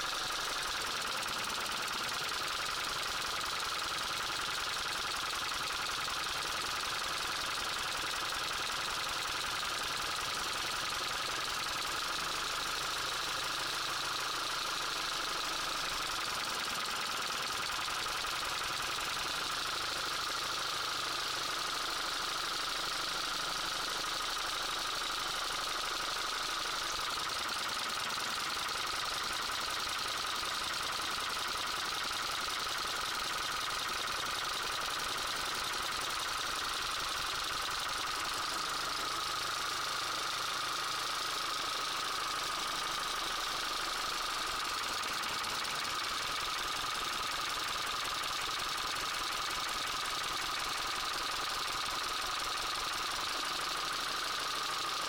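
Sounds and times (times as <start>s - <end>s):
engine knocking and rattling: 0.0s - 55.0s.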